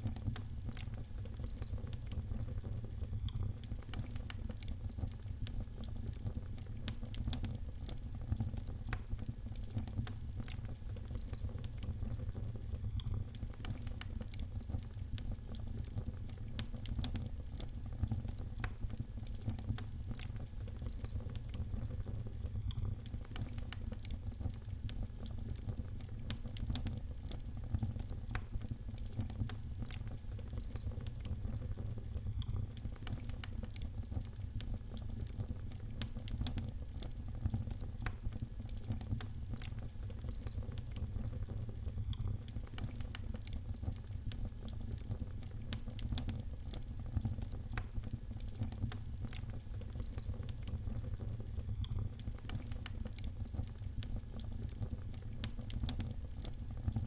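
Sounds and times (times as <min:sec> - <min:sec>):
fire crackling in a fireplace: 0:00.0 - 0:57.0.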